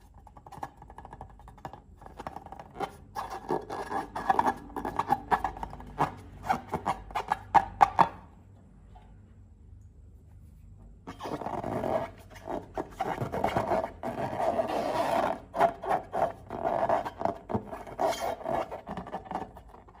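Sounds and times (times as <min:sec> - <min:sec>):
slime squishing and rubbing: 0:00.0 - 0:07.8, 0:10.5 - 0:20.0.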